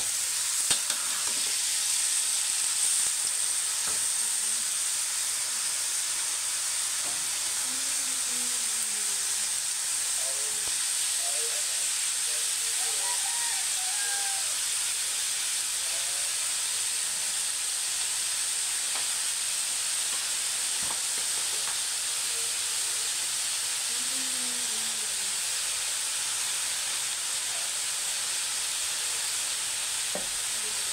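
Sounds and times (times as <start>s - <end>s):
food sizzling in a wok: 0.0s - 30.9s.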